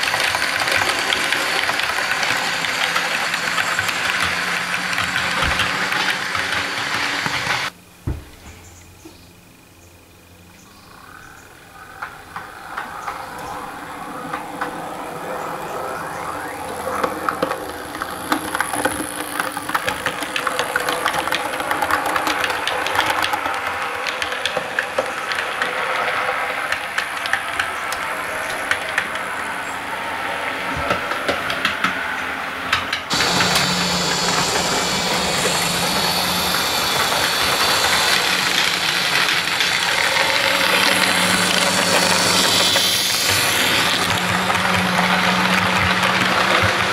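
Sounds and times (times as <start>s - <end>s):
model locomotive engine drone: 0.0s - 7.8s, 11.8s - 46.9s
model train wheels clicking on rails: 0.0s - 7.8s, 11.9s - 46.9s.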